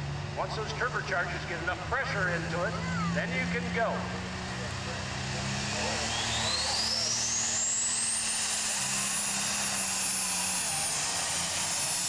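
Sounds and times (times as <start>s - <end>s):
high turbo whine: 0.0s - 12.0s
tractor engine running: 0.0s - 12.0s.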